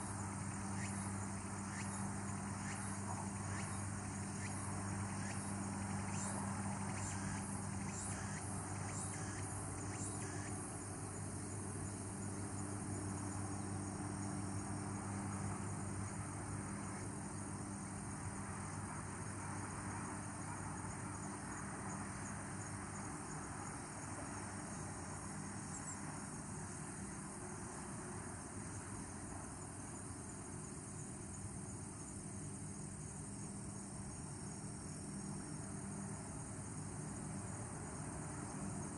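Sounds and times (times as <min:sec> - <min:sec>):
insects trilling: 0:00.0 - 0:38.9
steady low hum: 0:00.0 - 0:38.9.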